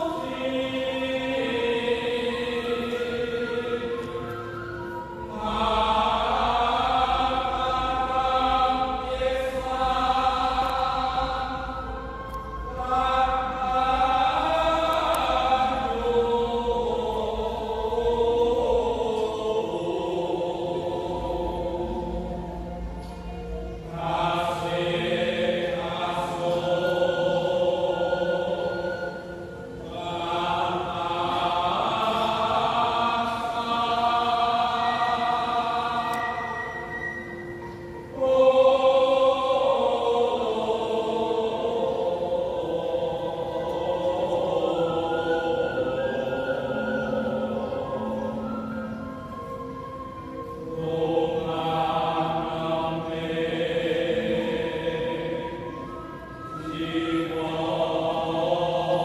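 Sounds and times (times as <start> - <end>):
choir chanting: 0.0 - 59.0.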